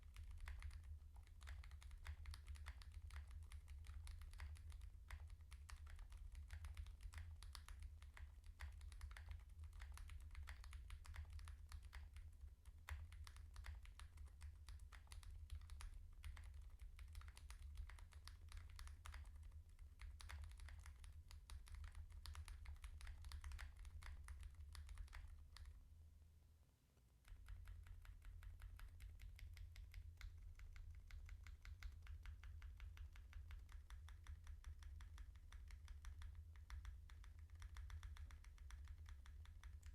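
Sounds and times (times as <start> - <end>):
mechanical keyboard typing: 0.0 - 25.8, 27.2 - 39.9.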